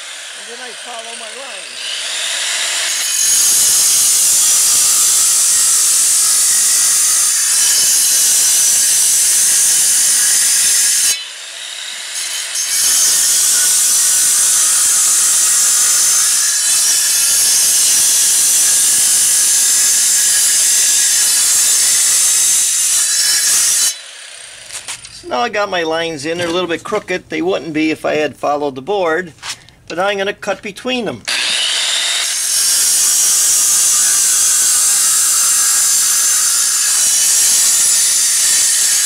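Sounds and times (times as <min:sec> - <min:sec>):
angle grinder cutting concrete: 0:00.0 - 0:25.2, 0:31.3 - 0:39.0.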